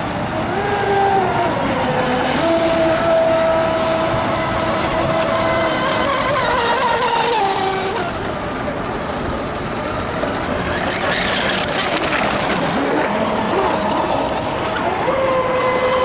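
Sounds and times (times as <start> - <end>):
toy speedboat motors whining: 0.0 - 16.0.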